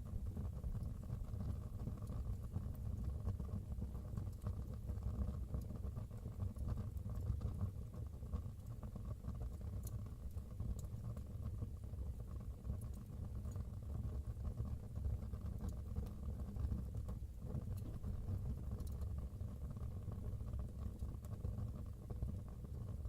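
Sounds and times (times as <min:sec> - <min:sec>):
fire crackles and pops: 0:00.0 - 0:23.0.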